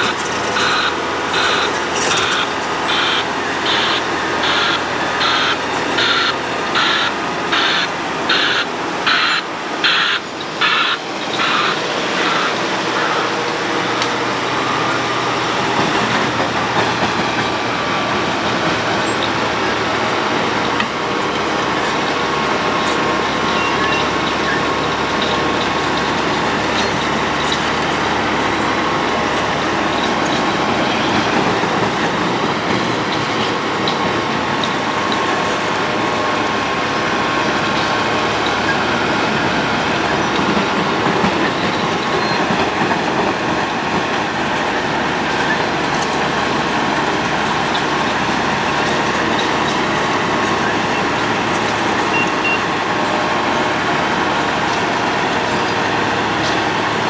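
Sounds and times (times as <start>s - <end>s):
road milling machine grinding: 0.0s - 57.0s.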